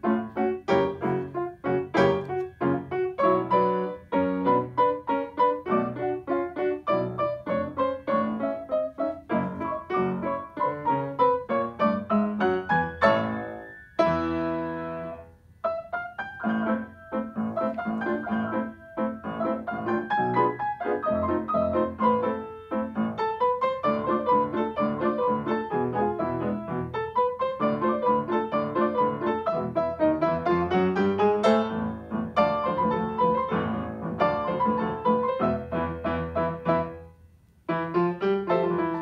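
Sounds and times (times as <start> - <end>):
grand piano playing: 0.0 - 39.0.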